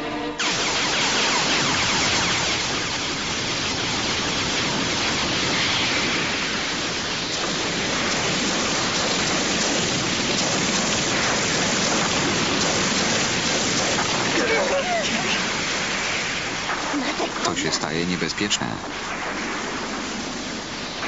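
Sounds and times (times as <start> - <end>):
energy beam blast rushing hiss: 0.4 - 21.0.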